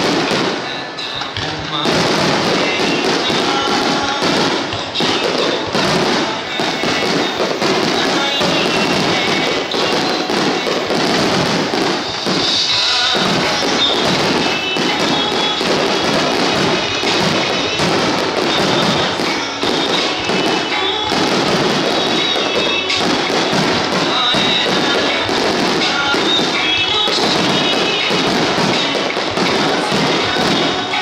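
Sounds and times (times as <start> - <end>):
firework shells bursting: 0.0 - 31.0
loud recorded music: 0.0 - 31.0.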